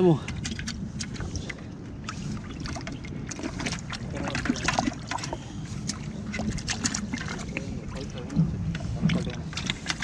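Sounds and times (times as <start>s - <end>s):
water splashing in a bucket: 0.0s - 10.0s.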